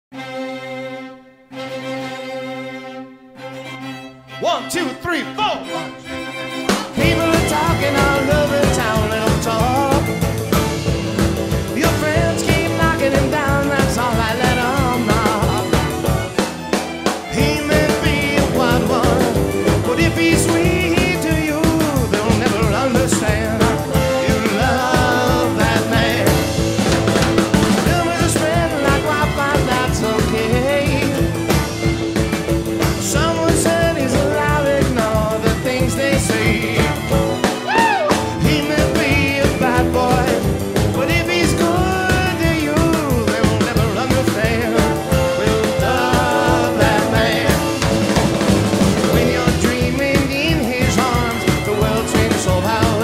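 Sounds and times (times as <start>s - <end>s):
song with singing and drums: 5.4s - 53.0s.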